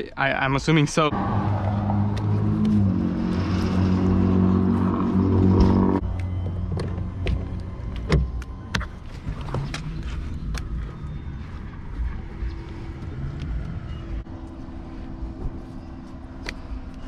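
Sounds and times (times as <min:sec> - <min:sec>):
low vehicle rumble: 0:01.1 - 0:17.0.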